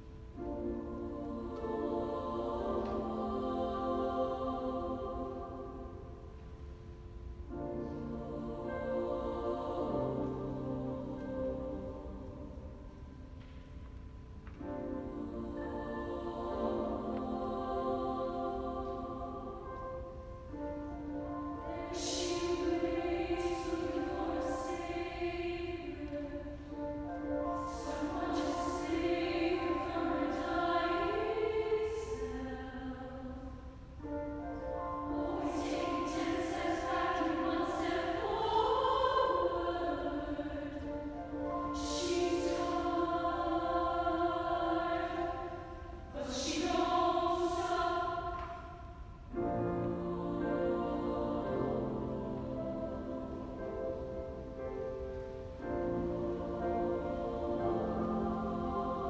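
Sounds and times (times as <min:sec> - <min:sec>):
girls' choir singing: 0:00.0 - 0:06.7, 0:07.4 - 0:13.3, 0:14.4 - 0:59.0.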